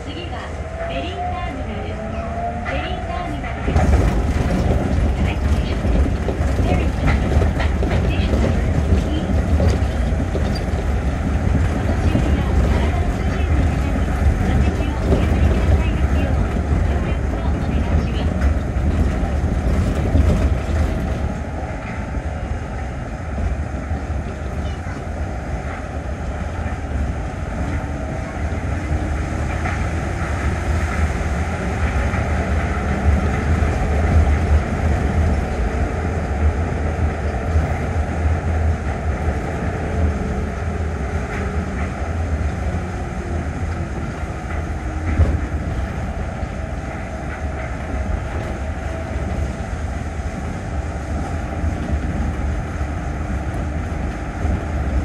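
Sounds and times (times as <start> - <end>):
train running low rumble: 0.0 - 55.0.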